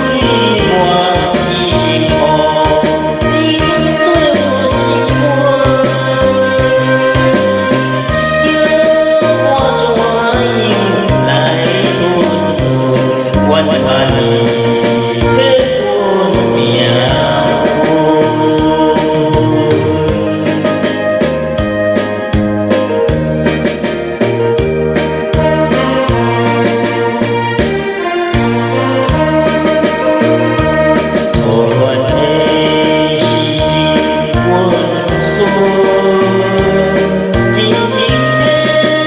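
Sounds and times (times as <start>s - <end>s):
man singing into a microphone: 0.0s - 21.7s, 25.3s - 27.5s, 28.3s - 39.0s
karaoke backing track: 0.0s - 39.0s
organ and keyboard notes: 0.0s - 39.0s
drum beat: 0.1s - 39.0s.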